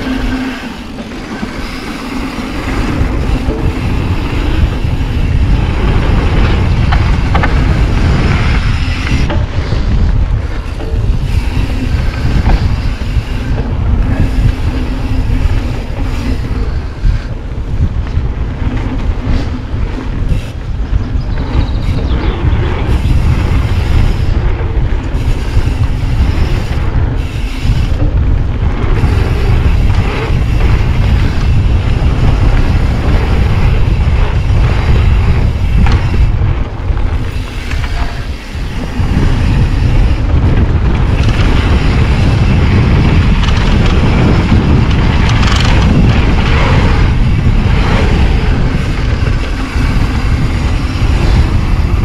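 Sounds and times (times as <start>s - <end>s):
bike rattling over bumps: 0.0s - 52.0s
tyres rolling on dirt: 0.0s - 52.0s
wind buffeting microphone: 0.0s - 52.0s.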